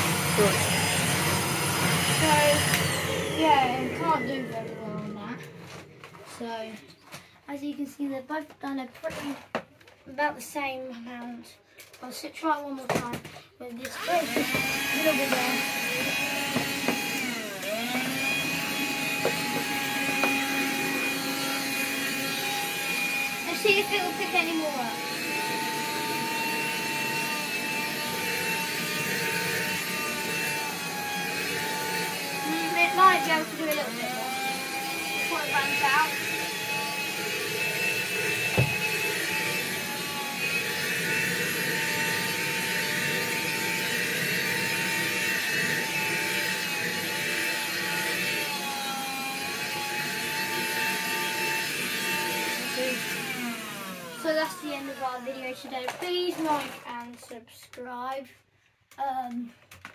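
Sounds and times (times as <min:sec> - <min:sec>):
handheld vacuum cleaner whining: 0:00.0 - 0:07.4, 0:12.9 - 0:57.8.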